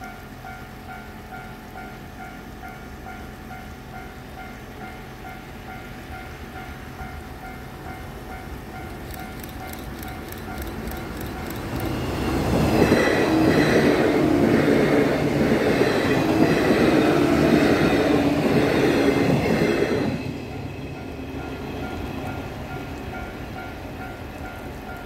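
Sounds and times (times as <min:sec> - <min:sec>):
train passing with clickety-clack: 0:00.0 - 0:25.0.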